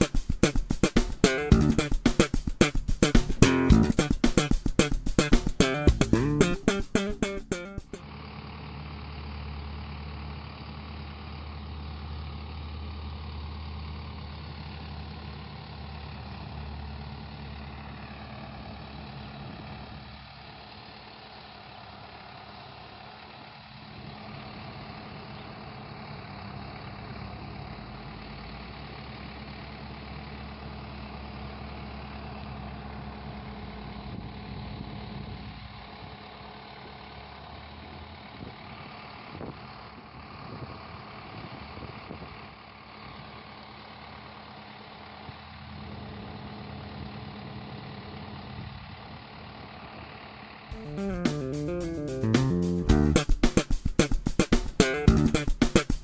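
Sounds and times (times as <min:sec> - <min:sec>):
tractor diesel engine running: 0:08.0 - 0:53.2.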